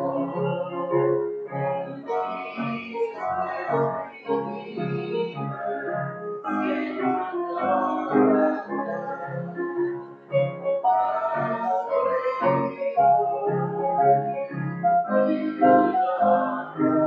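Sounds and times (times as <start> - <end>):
congregation singing a hymn: 0.0 - 17.0
instrumental accompaniment: 0.0 - 17.0.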